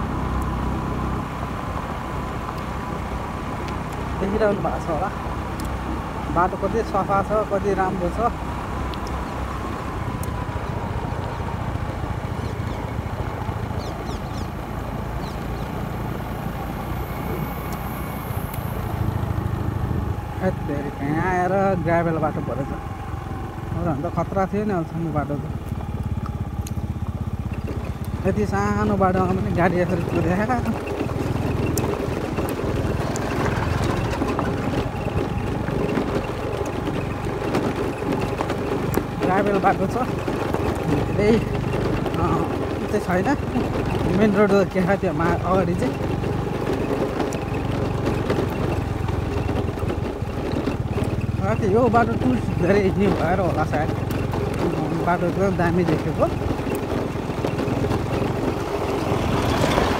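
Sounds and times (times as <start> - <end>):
motor scooter engine running: 0.0 - 59.9
tyres on gravel: 0.0 - 59.9.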